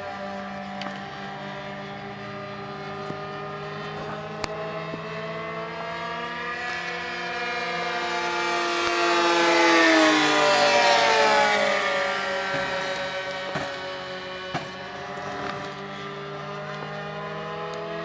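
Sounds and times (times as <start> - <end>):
model airplane engine buzzing: 0.0 - 18.0.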